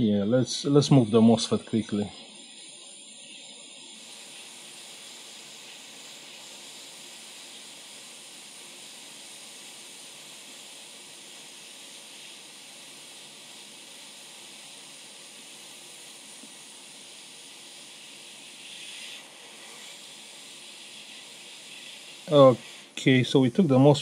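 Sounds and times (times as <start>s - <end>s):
hot air station hissing: 0.0s - 24.0s.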